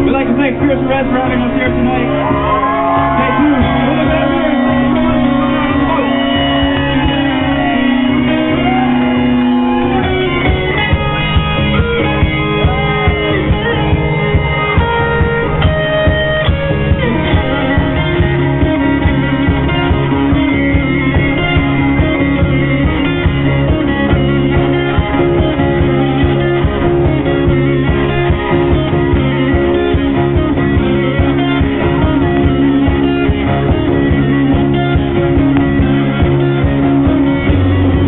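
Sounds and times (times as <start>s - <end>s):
lead guitar: 0.0s - 38.0s
steady bass notes: 0.0s - 38.0s
regular drum beat: 1.6s - 38.0s.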